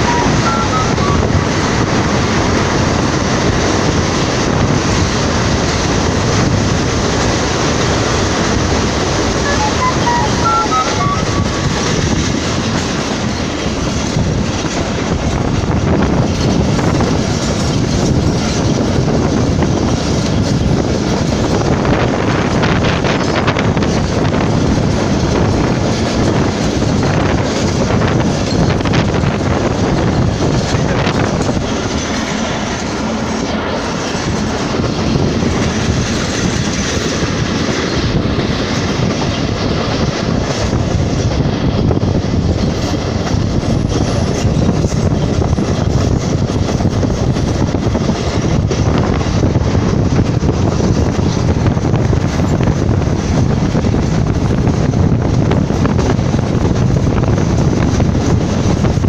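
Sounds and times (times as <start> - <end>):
clickety-clack of rail joints: 0.0 - 9.8, 10.7 - 59.0
train wheels rumbling on rails: 0.0 - 59.0.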